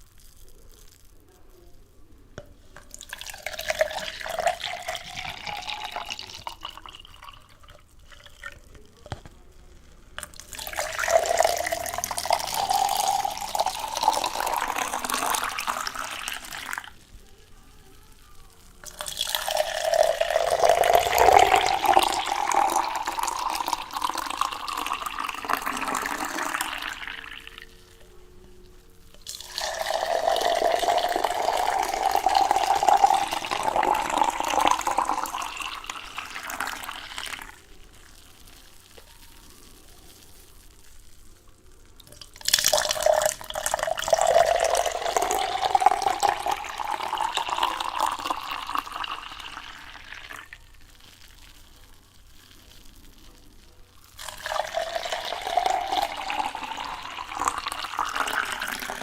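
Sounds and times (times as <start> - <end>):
water pouring: 2.4 - 59.0.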